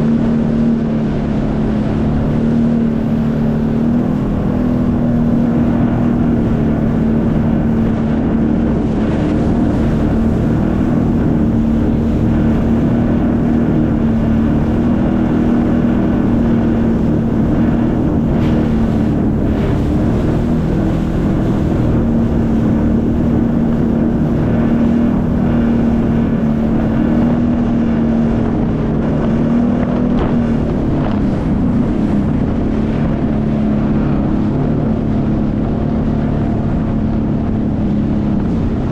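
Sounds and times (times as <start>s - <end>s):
jet ski engine droning: 0.0s - 38.9s
wind buffeting microphone: 0.0s - 38.9s.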